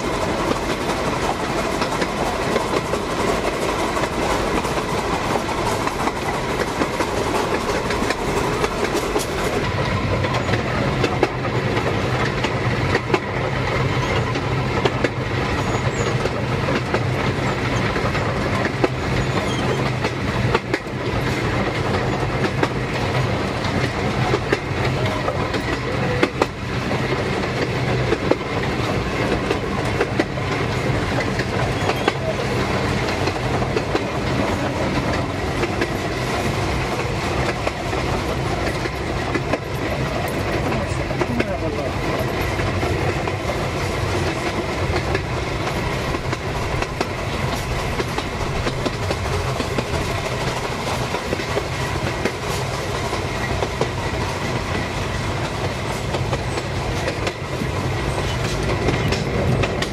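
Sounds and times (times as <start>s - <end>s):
train rumbling: 0.0s - 59.9s
wheels clicking over rails: 0.0s - 59.9s.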